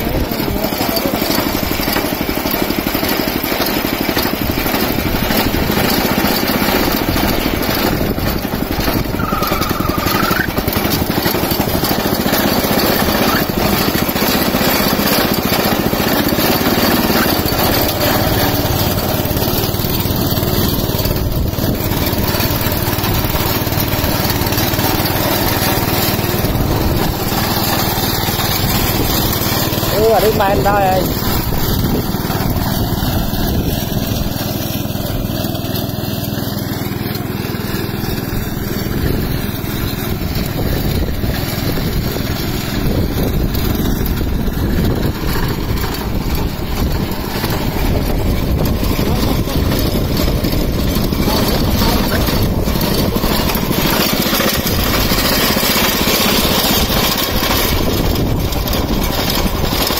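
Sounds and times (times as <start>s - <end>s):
reaper engine running: 0.0s - 59.9s.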